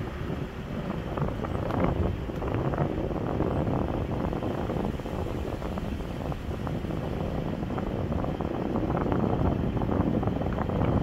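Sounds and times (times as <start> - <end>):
vehicle rumbling slowly: 0.0 - 11.0
wind on microphone: 0.0 - 11.0.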